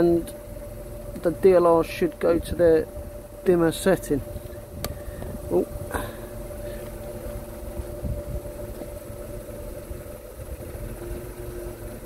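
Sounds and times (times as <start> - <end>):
car engine idling: 0.0 - 12.0
faint steady whine: 0.0 - 12.0.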